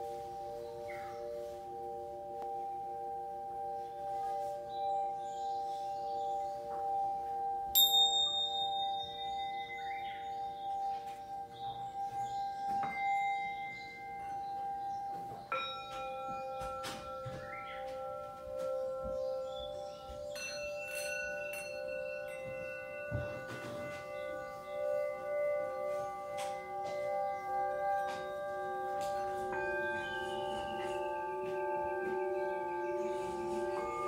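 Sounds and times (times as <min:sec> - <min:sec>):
ringing bell-like tones: 0:00.0 - 0:34.0.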